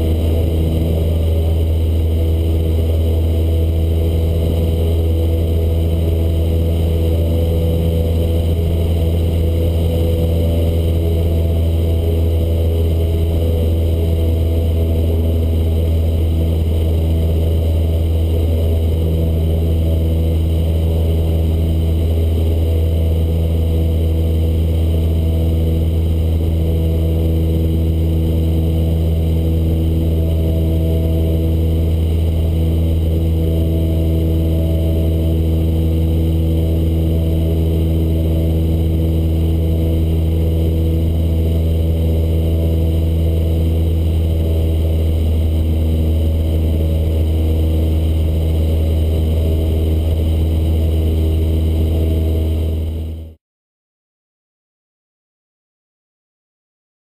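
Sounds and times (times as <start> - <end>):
airplane engine droning: 0.0 - 53.4.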